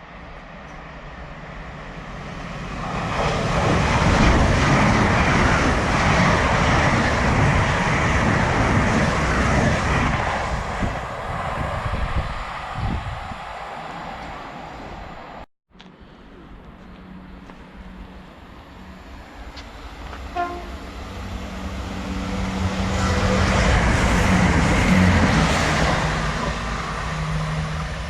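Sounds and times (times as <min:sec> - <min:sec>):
train rumbling past: 0:00.0 - 0:15.5, 0:16.1 - 0:28.0.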